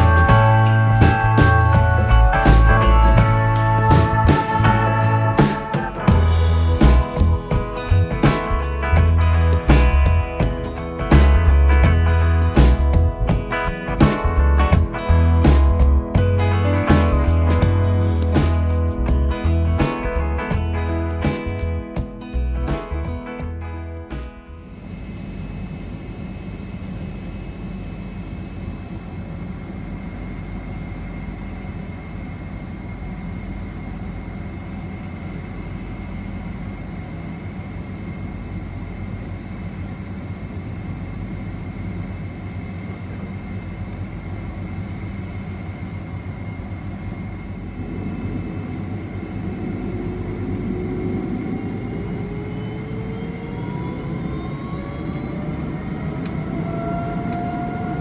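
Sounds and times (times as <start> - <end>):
jet engines heard from cabin: 0.0 - 23.4, 24.1 - 58.0
high whine climbing in pitch: 0.0 - 58.0.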